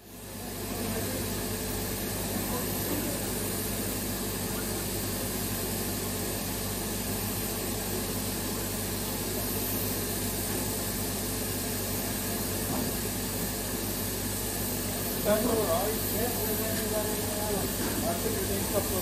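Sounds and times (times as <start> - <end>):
steam train hiss and rumble: 0.0 - 19.0.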